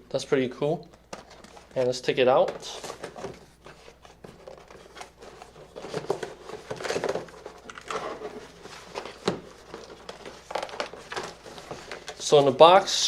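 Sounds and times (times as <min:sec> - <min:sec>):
cardboard packaging rustling: 0:00.9 - 0:13.0.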